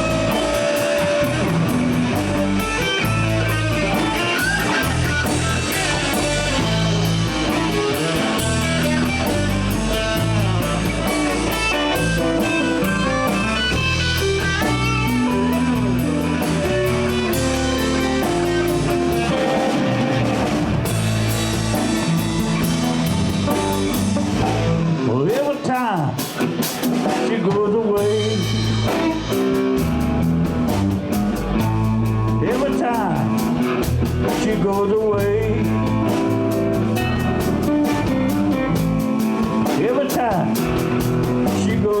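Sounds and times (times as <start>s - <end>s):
blues band playing: 0.0s - 42.0s
electric guitar: 0.0s - 42.0s.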